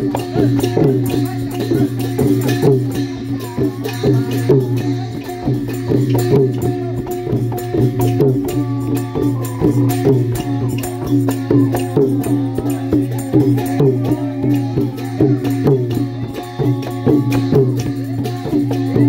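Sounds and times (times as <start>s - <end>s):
cymbal clashes: 0.0s - 19.0s
long drums beating: 0.0s - 19.0s.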